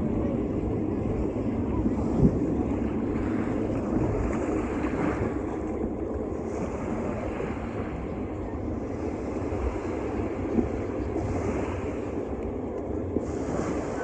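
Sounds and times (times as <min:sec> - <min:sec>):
rushing water or surf: 0:00.0 - 0:14.0
wind blowing on microphone: 0:00.0 - 0:14.0.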